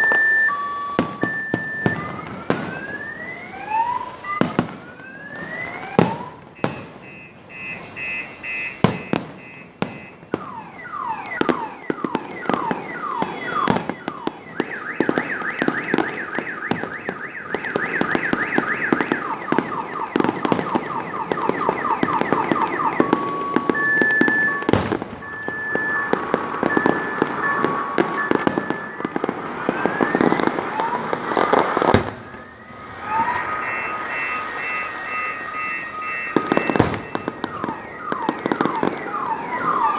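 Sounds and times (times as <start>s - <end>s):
whistling firework shells: 0.0s - 3.2s, 4.2s - 39.9s
fireworks bangs: 0.0s - 39.9s
fireworks crackling: 0.0s - 39.9s.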